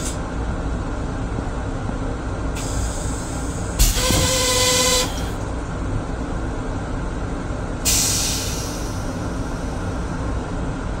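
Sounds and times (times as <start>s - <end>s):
low rumble of moving train: 0.0s - 11.0s.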